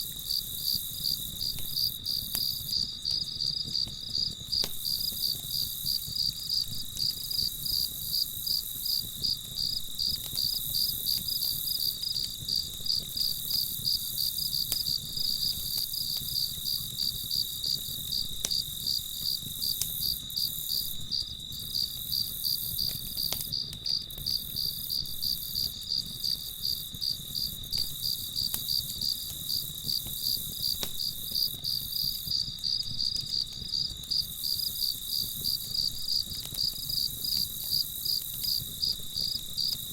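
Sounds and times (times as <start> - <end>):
crickets chirping: 0.0 - 39.9
faint campfire crackles: 0.0 - 39.9.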